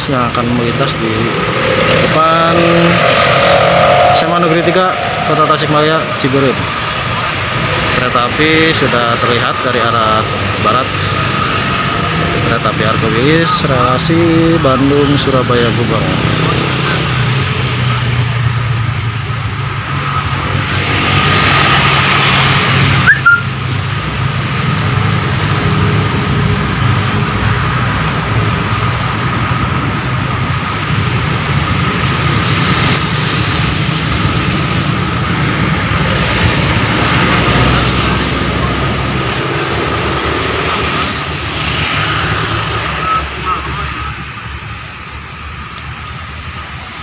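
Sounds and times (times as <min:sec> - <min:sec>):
distant train drone: 0:00.0 - 0:15.5, 0:16.4 - 0:47.0.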